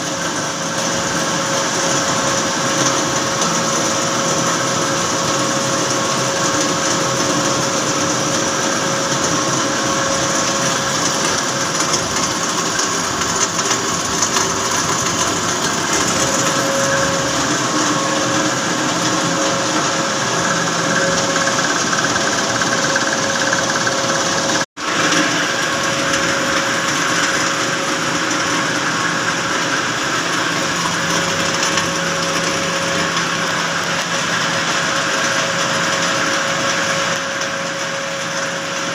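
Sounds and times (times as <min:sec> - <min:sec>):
chiller machinery humming: 0:00.0 - 0:38.9.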